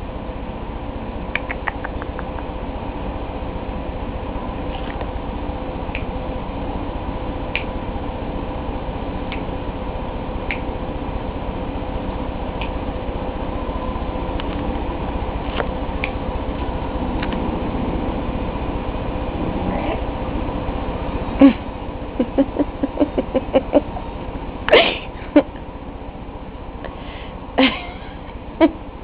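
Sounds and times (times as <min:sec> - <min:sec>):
background hum and hiss: 0:00.0 - 0:29.0.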